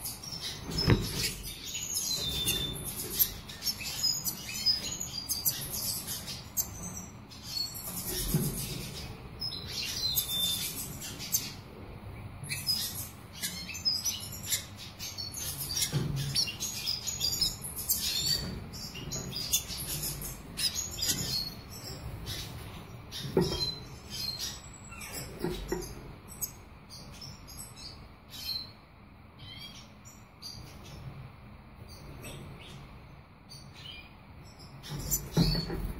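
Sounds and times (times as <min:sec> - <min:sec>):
bird twittering song: 0:00.0 - 0:31.2, 0:31.8 - 0:35.9.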